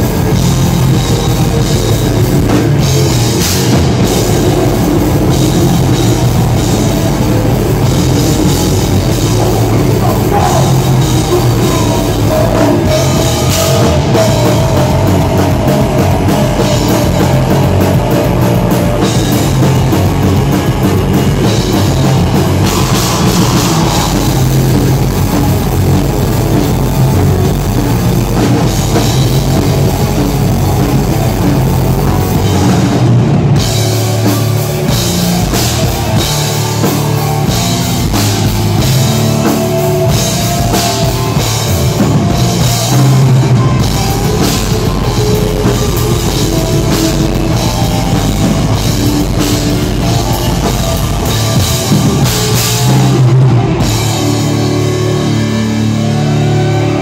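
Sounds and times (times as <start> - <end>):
distorted electric guitars: 0.0 - 57.0
drum kit: 0.0 - 57.0.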